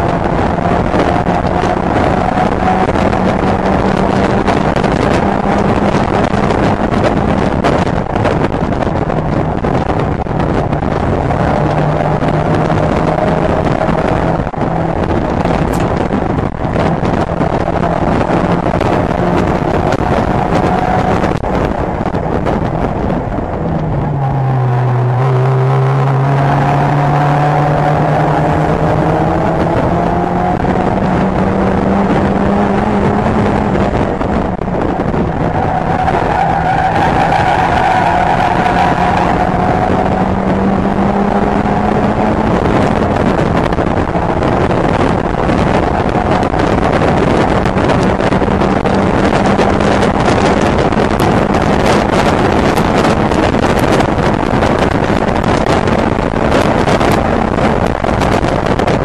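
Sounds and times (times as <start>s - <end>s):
race car engine revving: 0.0s - 59.0s
wind rushing: 0.0s - 59.0s.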